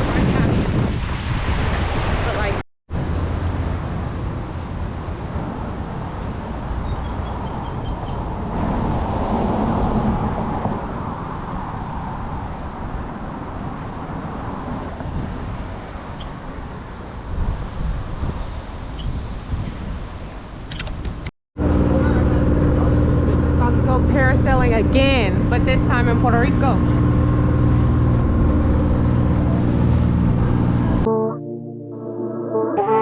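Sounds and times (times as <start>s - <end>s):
outdoor background noise: 0.0s - 31.1s.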